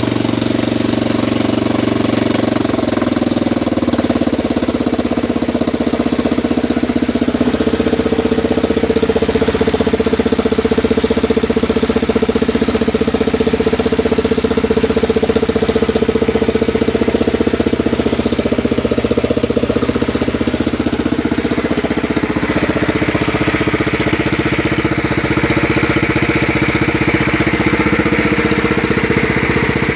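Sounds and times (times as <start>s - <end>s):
lawn tractor engine running: 0.0s - 29.9s.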